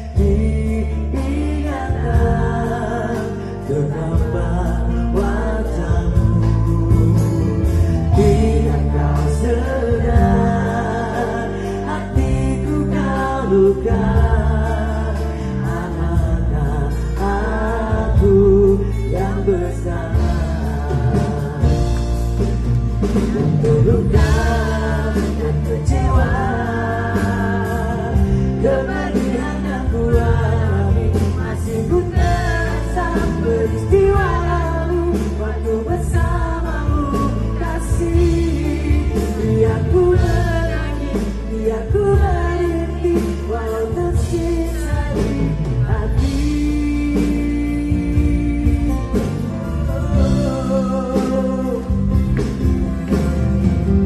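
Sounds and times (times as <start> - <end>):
man singing into microphone: 0.0 - 53.2
full band playing: 0.0 - 54.0
sustained bass: 0.0 - 54.0.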